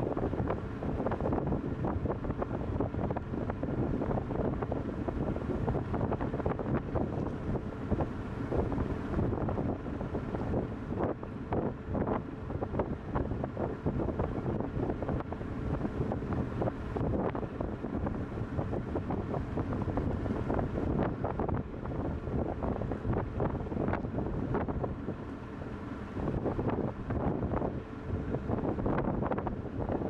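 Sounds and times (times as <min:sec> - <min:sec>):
faint ship engine hum: 0:00.0 - 0:30.0
wind buffeting microphone: 0:00.0 - 0:30.0.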